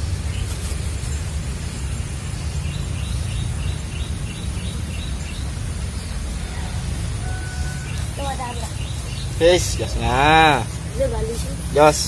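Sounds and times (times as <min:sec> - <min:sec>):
bird chirping: 0:00.0 - 0:12.0
low outdoor rumble: 0:00.0 - 0:12.0.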